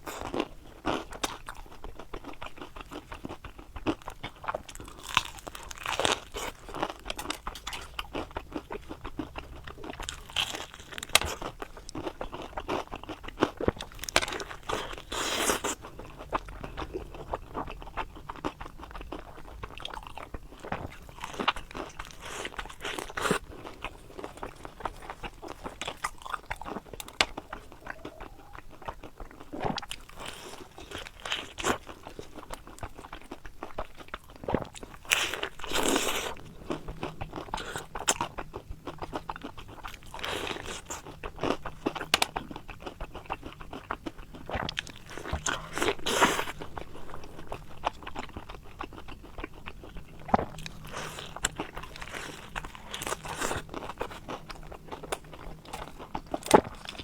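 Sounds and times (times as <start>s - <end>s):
crunching and chewing fried food: 0.0s - 57.0s.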